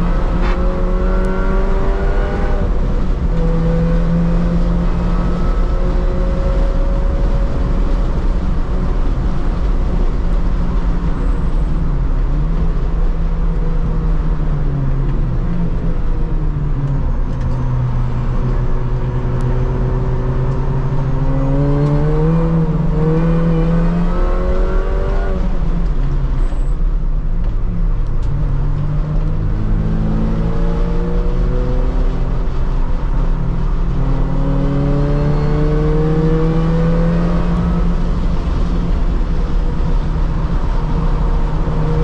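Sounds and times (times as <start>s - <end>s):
car engine at full throttle: 0.0s - 42.0s
road and wind noise: 0.0s - 42.0s.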